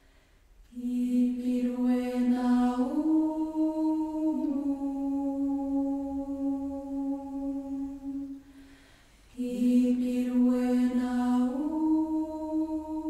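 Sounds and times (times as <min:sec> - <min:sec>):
chant-like vocal melody: 0:00.6 - 0:13.0.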